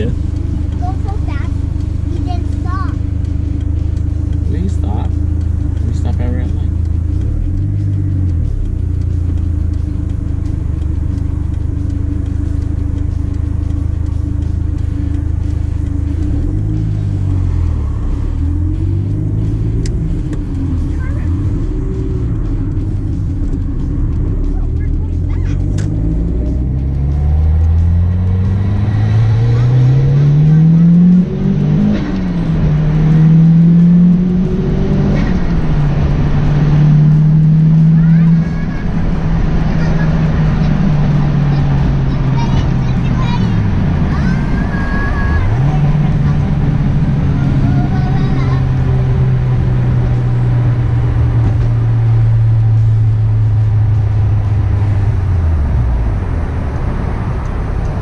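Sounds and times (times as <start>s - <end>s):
car engine accelerating hard: 0.0s - 58.0s
tyre and road noise: 0.0s - 58.0s.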